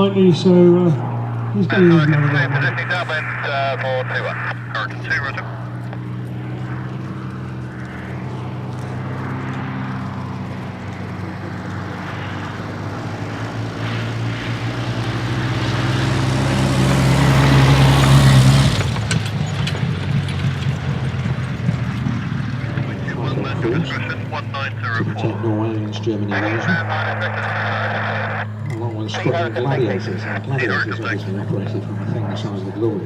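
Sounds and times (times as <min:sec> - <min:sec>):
propeller aircraft engine drone: 0:00.0 - 0:33.0.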